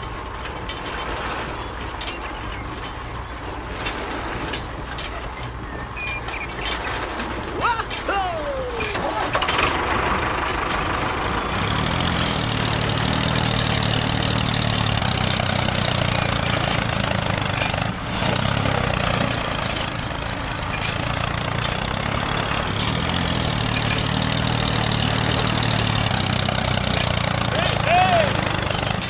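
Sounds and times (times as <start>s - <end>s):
engine running with pulsing hum: 0.0s - 29.0s.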